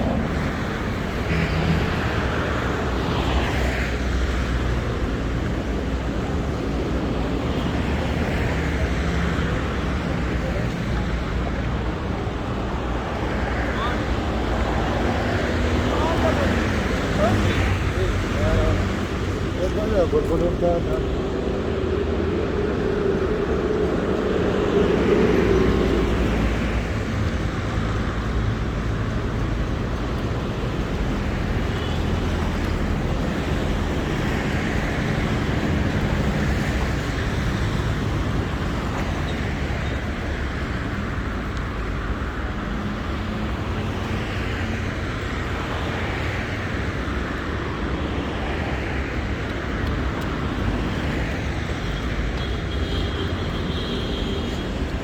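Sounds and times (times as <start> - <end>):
city street traffic roar: 0.0 - 55.0.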